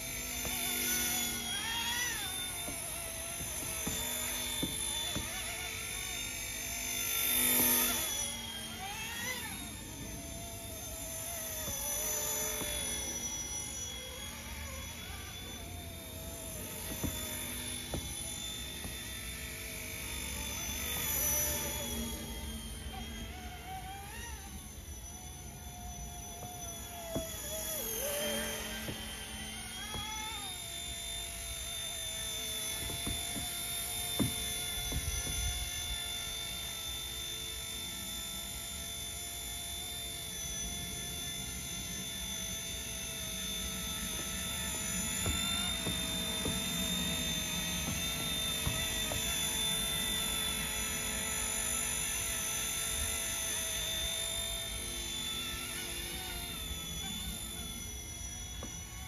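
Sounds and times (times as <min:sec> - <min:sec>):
model helicopter motor whine: 0:00.0 - 0:59.0.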